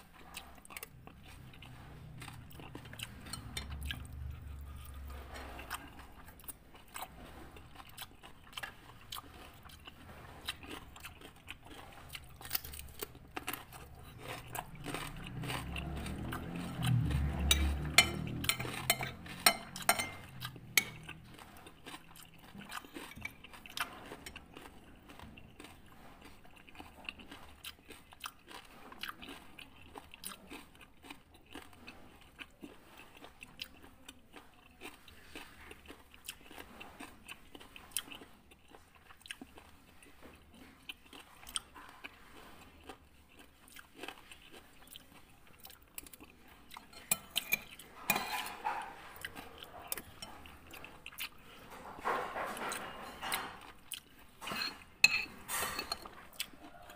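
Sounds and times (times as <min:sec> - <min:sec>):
chewing food: 0:00.0 - 0:56.9.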